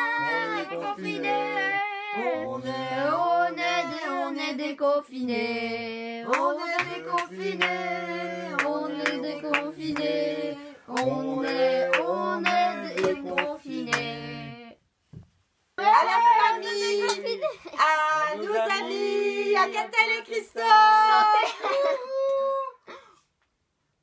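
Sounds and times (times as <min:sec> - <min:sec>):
two voices singing: 0:00.0 - 0:14.8, 0:16.0 - 0:21.4.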